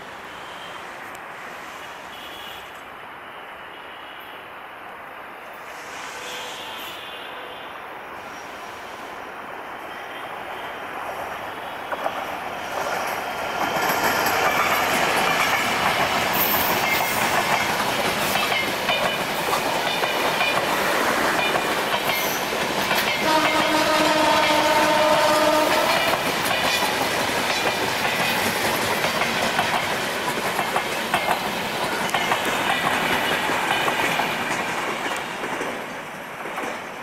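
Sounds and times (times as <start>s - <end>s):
passenger train passing: 0.0s - 37.0s.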